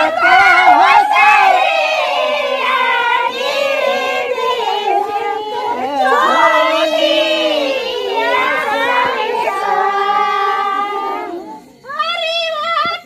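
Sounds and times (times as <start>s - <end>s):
women singing together: 0.0s - 13.0s.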